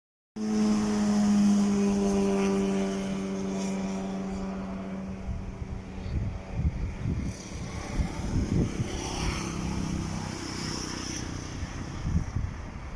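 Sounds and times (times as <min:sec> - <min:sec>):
jet engine whine: 0:00.4 - 0:12.9.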